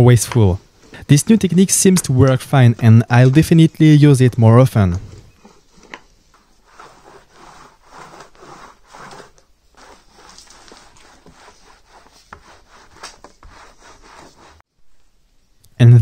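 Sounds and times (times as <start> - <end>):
paintbrush scraping strokes: 0.0 - 14.7.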